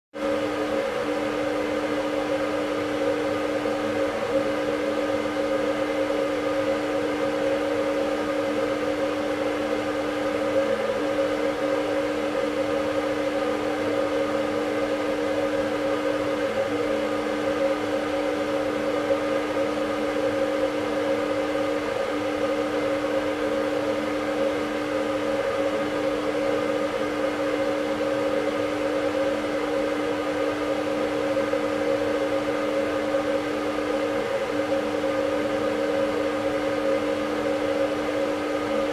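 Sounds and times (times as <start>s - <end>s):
fluorescent light humming: 0.2s - 38.9s.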